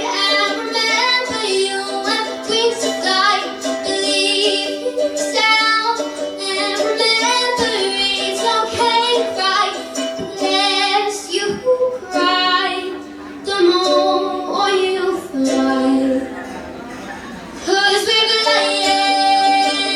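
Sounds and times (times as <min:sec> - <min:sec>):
woman singing slow song: 0:00.0 - 0:16.4, 0:17.6 - 0:19.9
instrumental accompaniment: 0:00.0 - 0:19.9.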